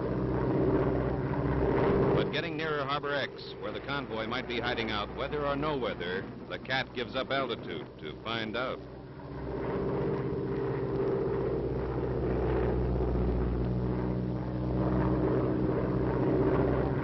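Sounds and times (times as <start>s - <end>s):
propeller engines droning: 0.0s - 17.0s.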